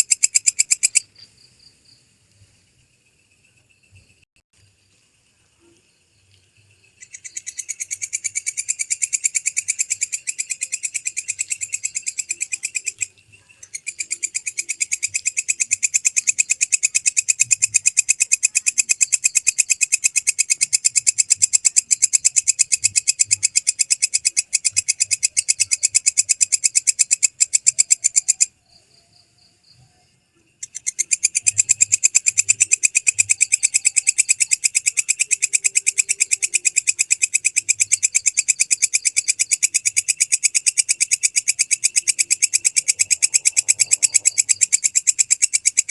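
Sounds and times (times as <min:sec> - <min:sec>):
katydid shrill chirping: 0:00.0 - 0:01.2, 0:07.0 - 0:29.9, 0:30.6 - 0:45.9.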